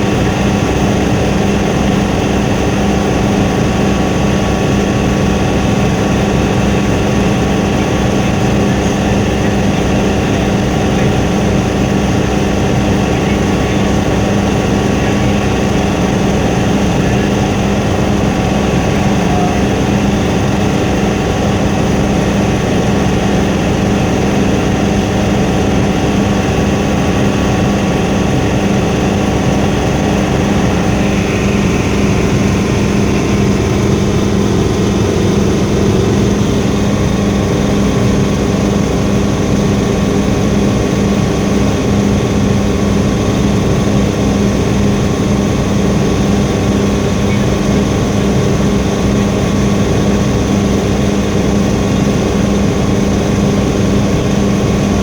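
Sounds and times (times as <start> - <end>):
helicopter cabin drone: 0.0 - 55.0.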